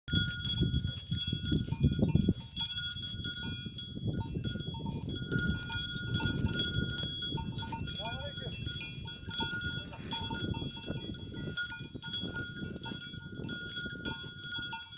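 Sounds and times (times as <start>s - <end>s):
livestock bells clinking: 0.1s - 14.9s.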